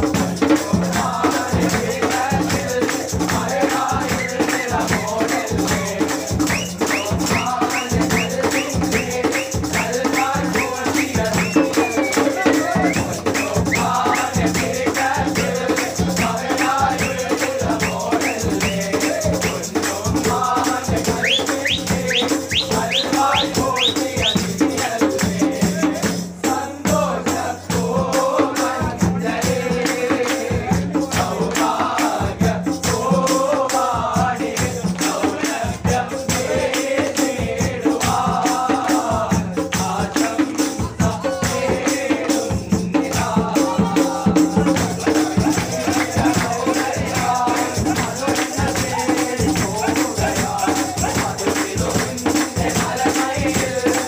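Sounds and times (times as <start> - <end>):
hand drums: 0.0 - 54.0
jingling tambourine: 0.0 - 54.0
men singing together: 0.0 - 54.0
rhythmic hand-clapping: 0.0 - 54.0.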